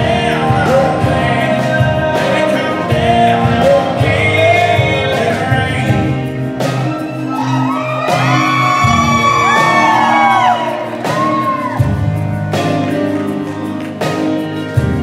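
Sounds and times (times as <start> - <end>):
acoustic guitars: 0.0 - 15.0
hand percussion: 0.0 - 15.0
stage keyboard: 0.0 - 15.0
steady bass: 0.0 - 15.0.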